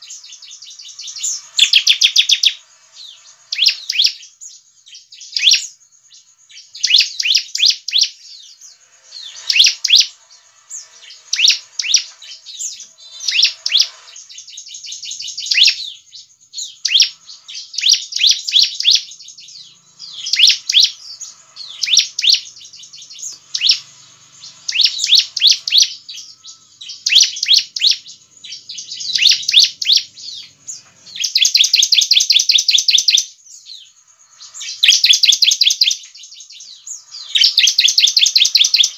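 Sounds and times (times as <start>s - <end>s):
bird rapid high chirps: 0.0s - 38.9s.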